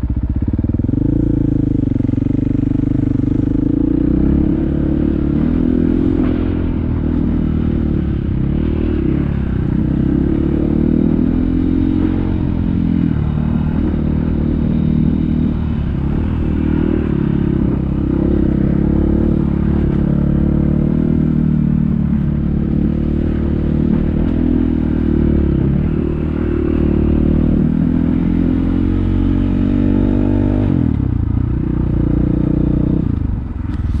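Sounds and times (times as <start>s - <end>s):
off-road vehicle engine revving: 0.9s - 34.0s.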